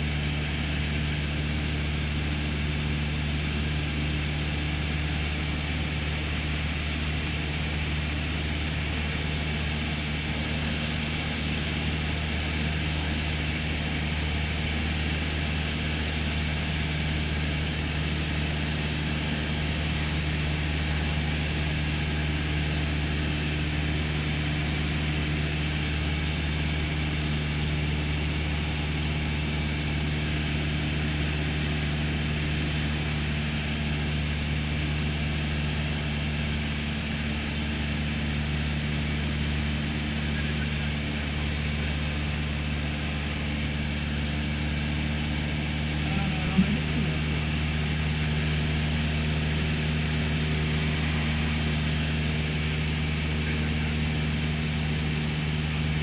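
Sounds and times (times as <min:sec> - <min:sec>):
light aircraft engine drone: 0:00.0 - 0:56.0.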